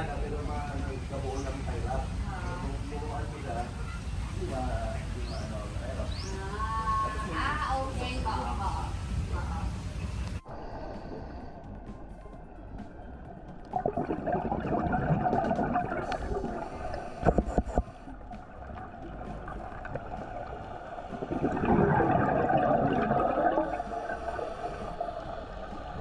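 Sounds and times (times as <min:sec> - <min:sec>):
regulator bubbles gurgling underwater: 0:00.0 - 0:10.4, 0:11.1 - 0:26.0.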